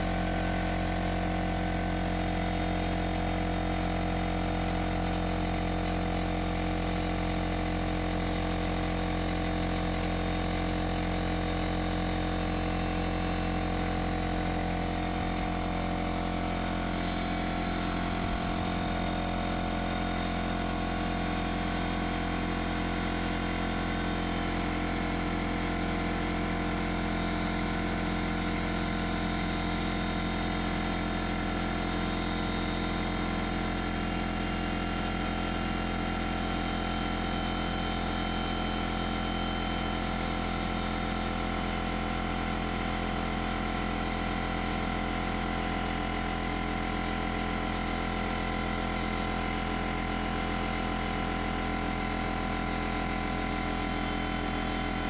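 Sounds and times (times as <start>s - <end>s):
air compressor running: 0.0s - 55.0s.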